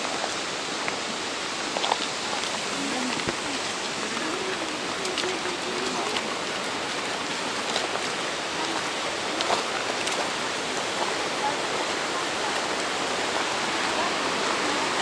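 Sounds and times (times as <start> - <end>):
water splashing: 0.0 - 15.0
waterfall rushing: 0.0 - 15.0.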